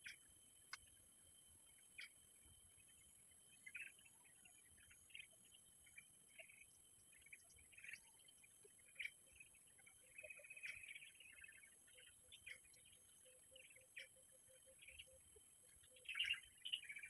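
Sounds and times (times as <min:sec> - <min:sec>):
insect drone: 0:00.0 - 0:17.0
small birds chirping: 0:00.0 - 0:17.0.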